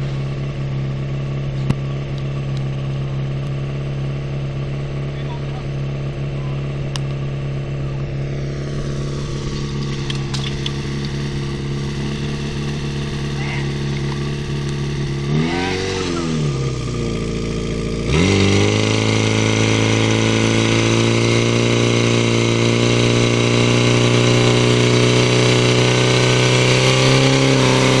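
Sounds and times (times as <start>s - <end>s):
pump engine revving: 0.0s - 28.0s.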